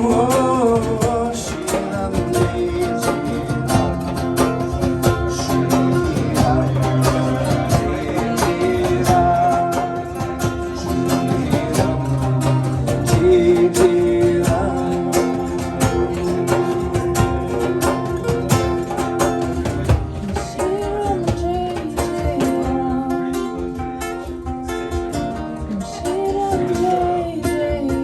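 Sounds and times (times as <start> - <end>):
steady beat: 0.0 - 25.8
plucked guitar: 0.0 - 28.0.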